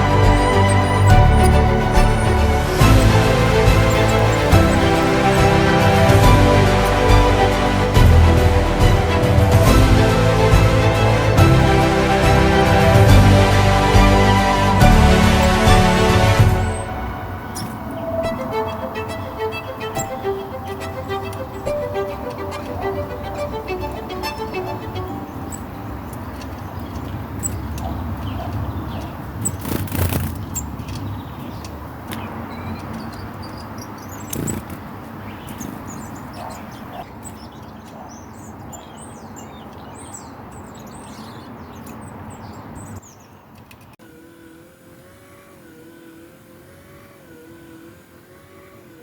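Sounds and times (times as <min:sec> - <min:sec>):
vehicle passing: 0:00.0 - 0:37.2, 0:44.0 - 0:49.0
small birds chirping: 0:00.0 - 0:44.0, 0:44.6 - 0:49.0
road traffic rumble: 0:00.0 - 0:49.0.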